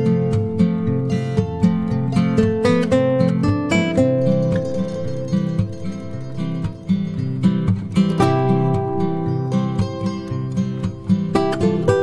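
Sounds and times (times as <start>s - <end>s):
acoustic guitar plucked notes: 0.0s - 12.0s.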